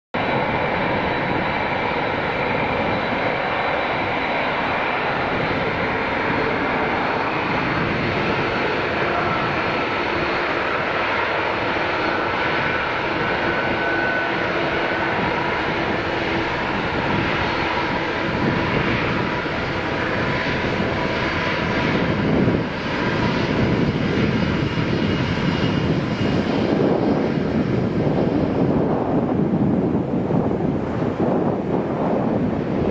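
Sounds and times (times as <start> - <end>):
jet engines roaring: 0.2 - 32.9.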